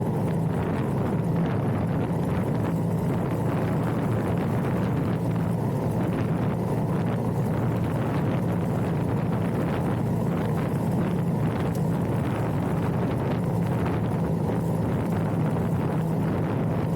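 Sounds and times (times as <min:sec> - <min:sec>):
motorcycle engine hum: 0:00.0 - 0:16.9
wind rush: 0:00.0 - 0:16.9.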